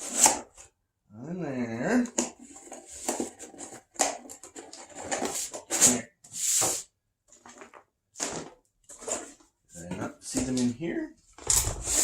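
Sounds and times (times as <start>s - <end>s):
cardboard and packaging rustling: 2.1s - 12.0s.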